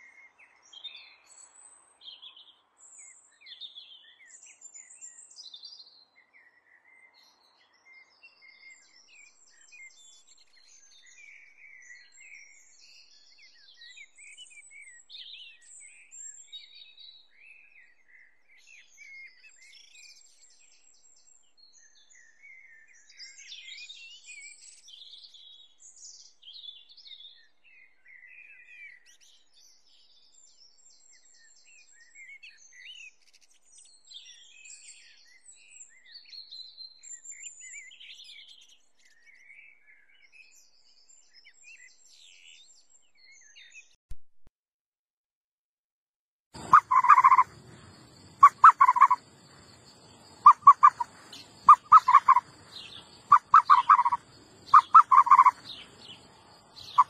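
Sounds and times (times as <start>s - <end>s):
small birds chirping: 0.0s - 44.0s, 46.6s - 57.0s.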